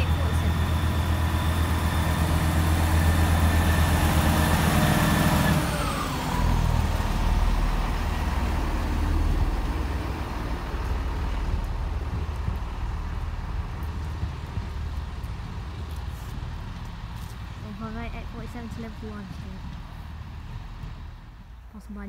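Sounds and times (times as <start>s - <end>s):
train diesel engines running: 0.0s - 22.0s.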